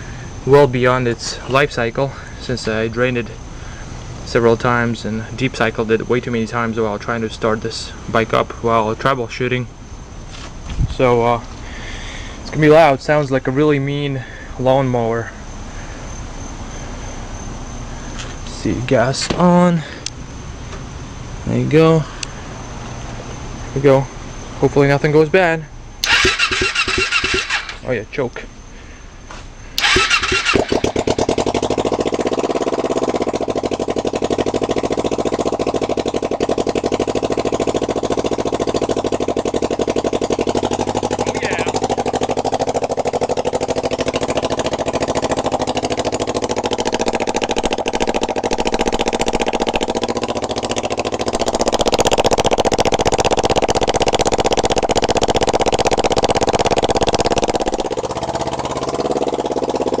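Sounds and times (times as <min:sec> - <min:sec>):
motorcycle engine running loud: 0:00.0 - 0:20.1, 0:26.0 - 0:27.8, 0:29.8 - 1:00.0.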